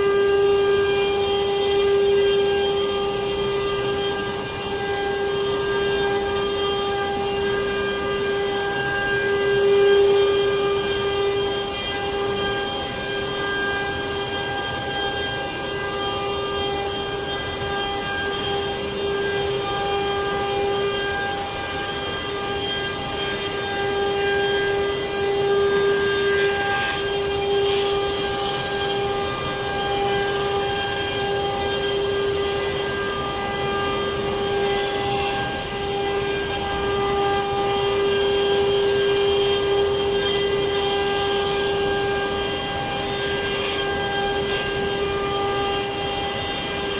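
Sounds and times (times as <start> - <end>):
router spindle whine: 0.0 - 46.9.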